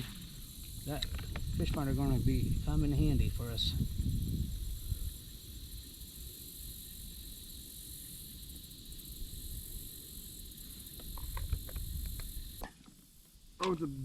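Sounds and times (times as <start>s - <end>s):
wind rumbling on microphone: 0.0s - 7.5s, 8.4s - 12.6s
steady high hiss: 0.0s - 14.0s.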